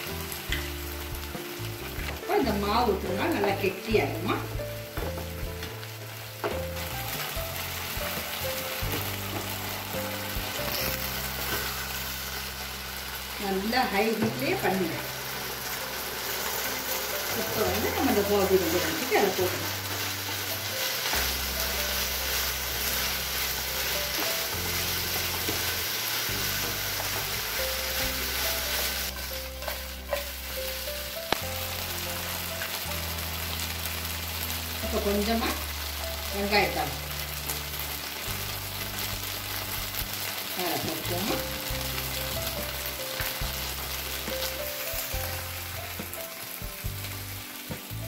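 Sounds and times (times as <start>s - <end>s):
food sizzling in a pan: 0.0s - 48.0s.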